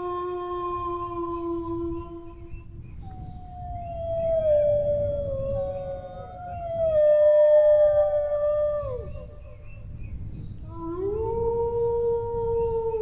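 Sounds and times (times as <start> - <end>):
higher dog howl: 0.0 - 9.8, 10.7 - 13.0
dog howling low: 0.0 - 10.0, 10.6 - 13.0.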